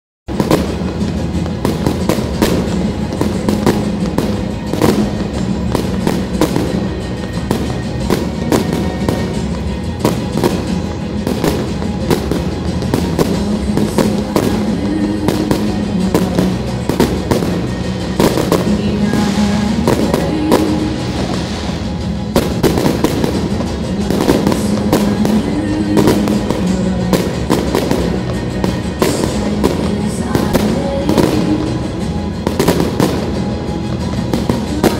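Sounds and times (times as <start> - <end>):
fireworks bursting: 0.3 - 34.9
music with held low notes: 0.3 - 34.9.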